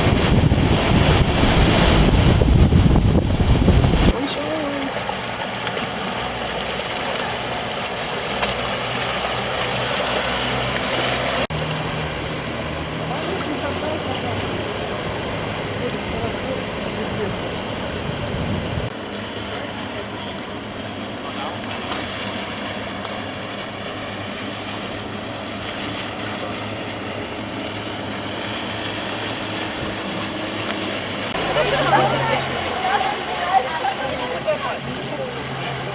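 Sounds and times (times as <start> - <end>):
constant rushing noise: 0.0 - 35.9
engine humming: 0.0 - 35.9.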